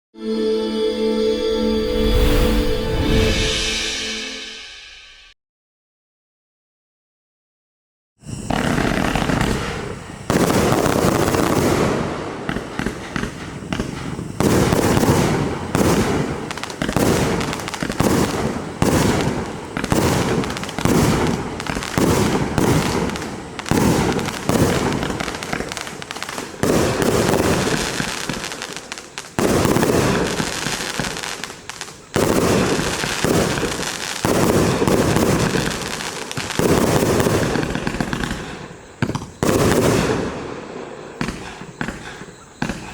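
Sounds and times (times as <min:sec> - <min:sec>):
fireworks shots and bursts: 0:08.2 - 0:42.9.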